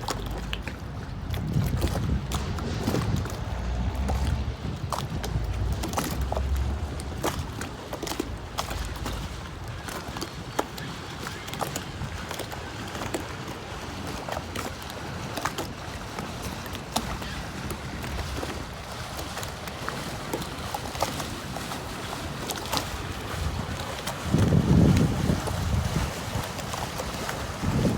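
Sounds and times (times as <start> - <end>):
wind on microphone: 0.0 - 11.0, 16.2 - 27.9
lake water lapping: 0.0 - 27.9.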